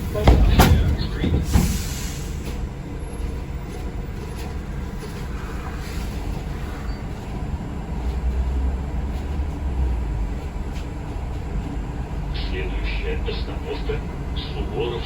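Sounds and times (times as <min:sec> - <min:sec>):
vehicle cabin rumble: 0:00.0 - 0:15.0.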